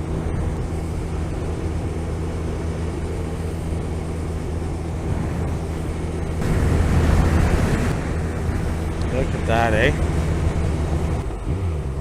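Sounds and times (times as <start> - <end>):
wind noise: 0.0 - 11.7
motorcycle engine running: 0.0 - 12.0
road noise: 0.0 - 12.0.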